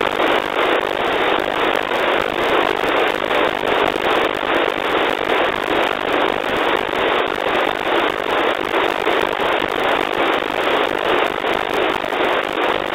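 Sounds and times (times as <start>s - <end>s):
radio static hiss: 0.0s - 12.9s.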